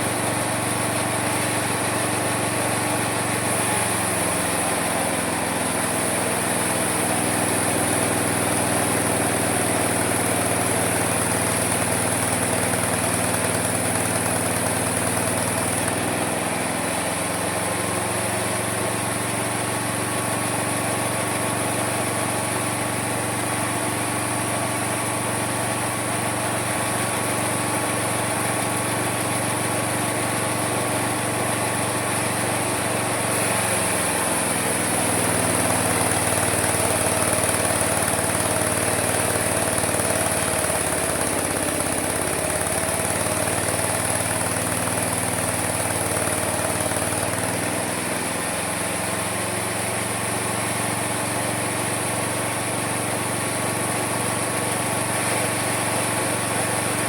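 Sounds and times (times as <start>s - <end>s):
mini sawmill running: 0.0s - 57.0s.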